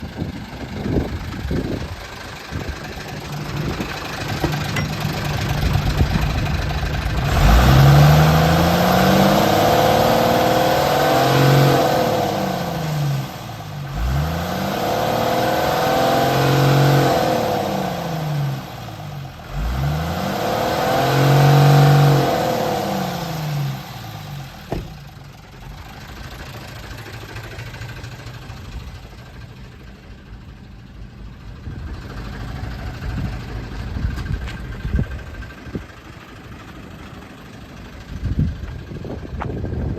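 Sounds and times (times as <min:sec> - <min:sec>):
truck diesel engine idling and revving: 0:00.0 - 0:39.9.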